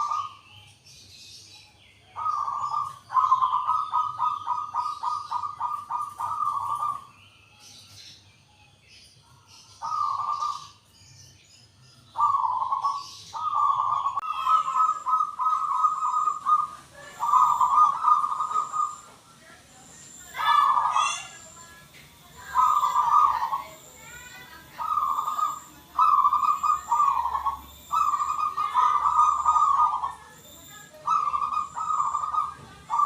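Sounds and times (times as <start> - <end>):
dove cooing: 0.0 - 0.5, 2.1 - 7.1, 9.8 - 10.8, 12.1 - 33.0.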